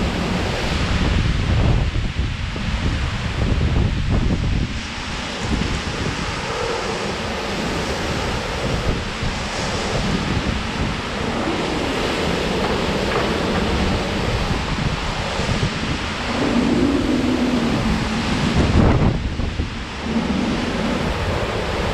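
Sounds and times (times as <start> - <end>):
heavy rain: 0.0 - 21.9
strong wind: 0.0 - 21.9
wind buffeting microphone: 0.0 - 21.9.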